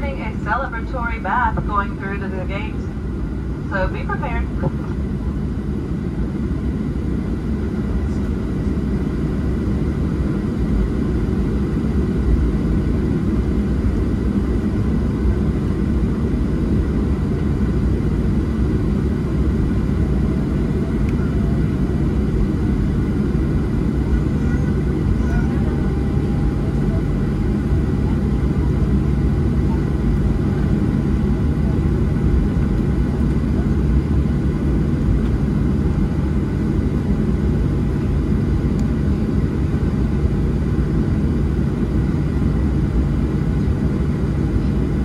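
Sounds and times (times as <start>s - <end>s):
faint steady whine: 0.0s - 45.0s
jet engines rumbling in cabin: 0.0s - 45.0s.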